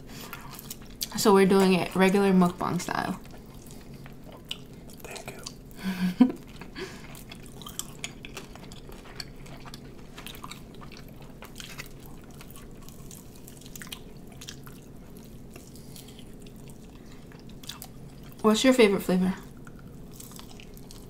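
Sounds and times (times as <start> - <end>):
steady low hum: 0.0 - 21.0
chewing and biting food: 0.2 - 1.2, 3.2 - 5.7, 6.3 - 18.4, 19.5 - 21.0.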